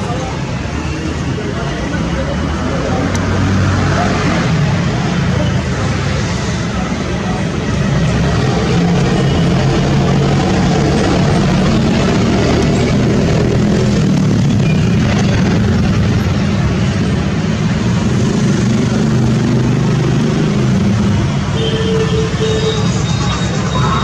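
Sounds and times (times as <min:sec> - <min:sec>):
engine-like drone: 0:00.0 - 0:21.6
constant rushing noise: 0:00.0 - 0:24.0.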